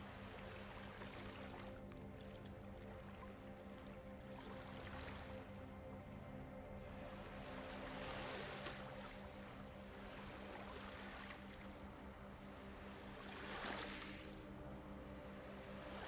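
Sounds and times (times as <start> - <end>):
gentle waves washing: 0.0 - 16.0
low steady hum: 0.0 - 16.0.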